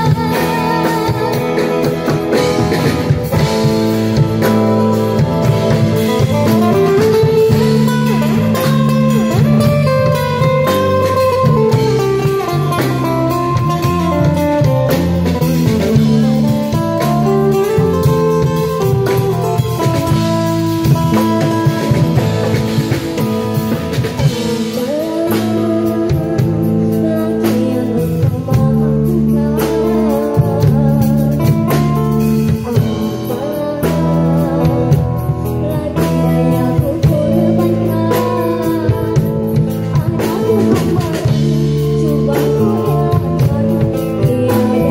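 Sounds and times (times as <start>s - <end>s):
girl singing into microphone: 0.0s - 20.1s, 24.2s - 44.9s
acoustic guitar: 0.0s - 44.9s
drum kit: 0.0s - 44.9s.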